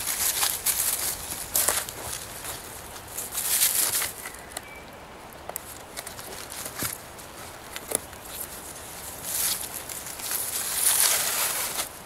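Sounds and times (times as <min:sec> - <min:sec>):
rustling and scraping of cord: 0:00.0 - 0:04.6, 0:05.4 - 0:12.0.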